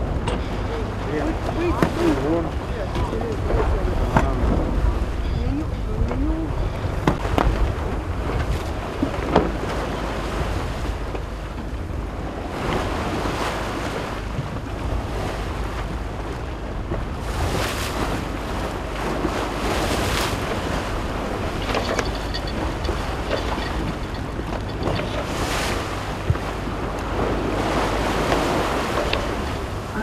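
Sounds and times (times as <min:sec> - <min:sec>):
choppy sea water rushing: 0:00.0 - 0:30.0
waves splashing: 0:00.0 - 0:30.0
wind buffeting microphone: 0:00.0 - 0:30.0.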